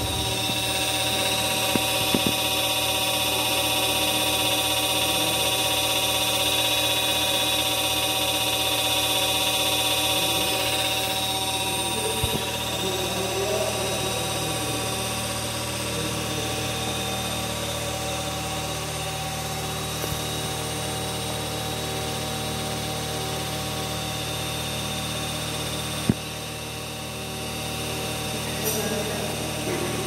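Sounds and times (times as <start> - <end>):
hydraulic power unit humming: 0.0 - 30.0.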